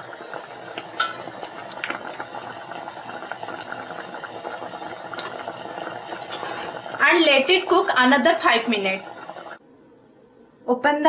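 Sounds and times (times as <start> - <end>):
syrup bubbling at a boil: 0.0 - 9.6.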